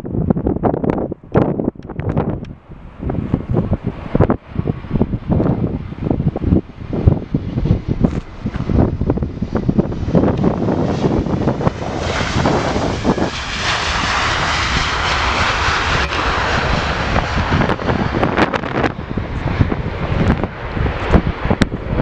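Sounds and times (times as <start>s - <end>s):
jet engines roaring past: 0.0s - 22.0s
wind buffeting microphone: 0.0s - 22.0s.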